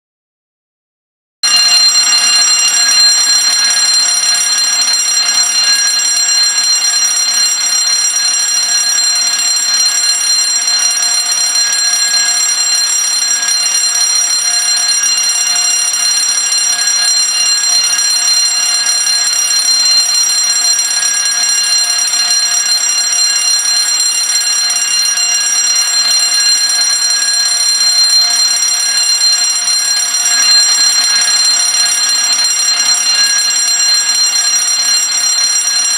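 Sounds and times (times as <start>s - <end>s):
fire alarm bell ringing: 1.4s - 35.9s.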